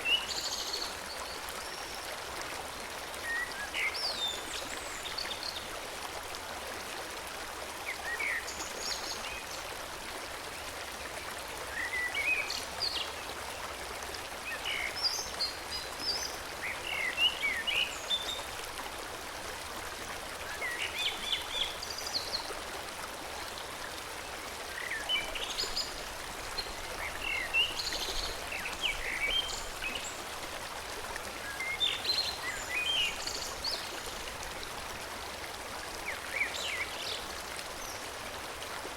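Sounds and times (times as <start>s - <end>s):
forest stream flowing: 0.0s - 38.9s.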